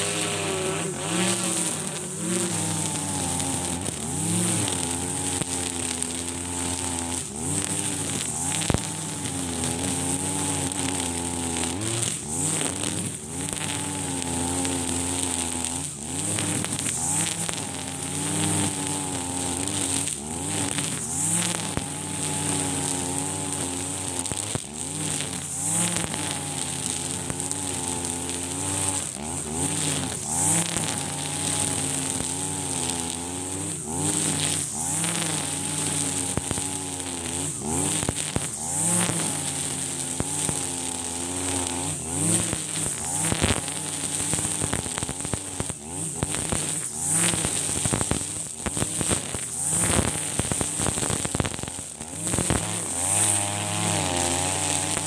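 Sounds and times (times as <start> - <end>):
brush cutter engine running: 0.0 - 55.0.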